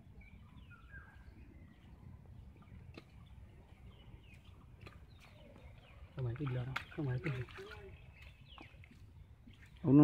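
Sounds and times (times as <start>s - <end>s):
faint bird chirps: 0.0s - 9.8s.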